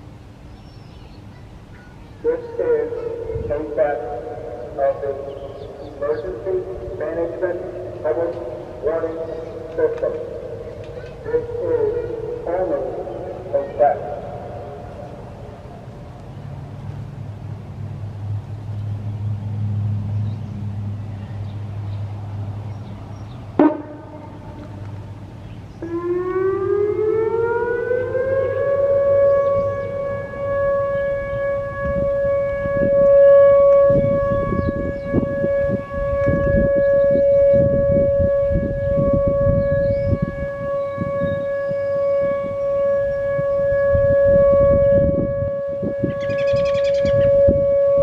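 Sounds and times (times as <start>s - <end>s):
warning siren: 2.2s - 17.0s, 23.4s - 48.0s.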